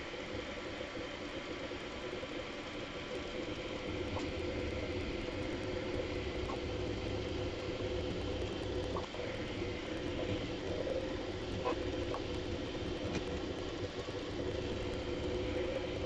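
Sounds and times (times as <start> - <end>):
three-d printer motors humming: 0.0 - 16.0.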